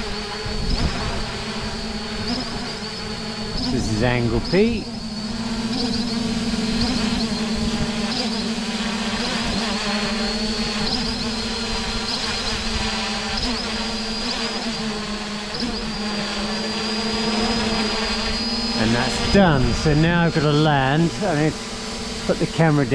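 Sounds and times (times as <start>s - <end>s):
drone propellers buzzing: 0.0s - 22.9s.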